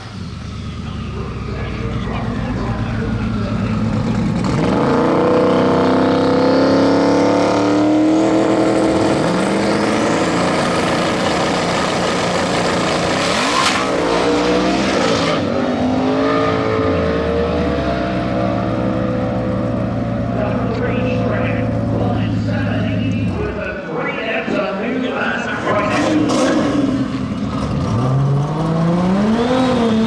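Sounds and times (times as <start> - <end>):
drag racing cars accelerating: 0.0 - 30.0.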